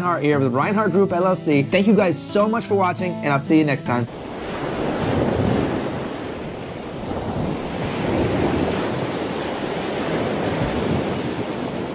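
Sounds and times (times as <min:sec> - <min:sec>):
ocean surf: 0:02.0 - 0:11.9.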